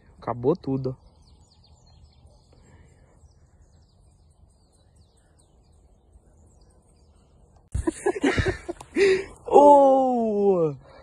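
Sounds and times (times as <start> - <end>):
distant birds chirping: 0.0 - 11.0.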